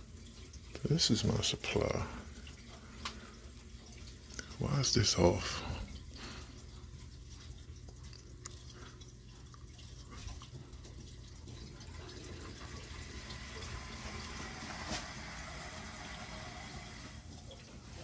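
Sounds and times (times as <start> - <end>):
water rushing through pipes: 0.0 - 18.0.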